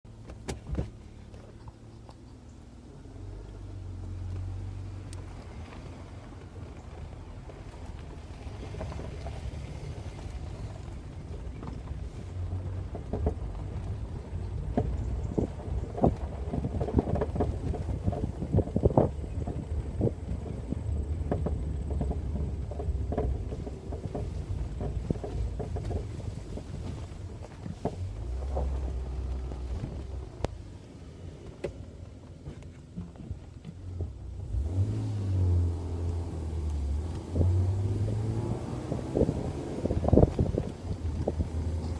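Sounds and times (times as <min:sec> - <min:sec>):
car engine running low: 0:00.0 - 0:41.9.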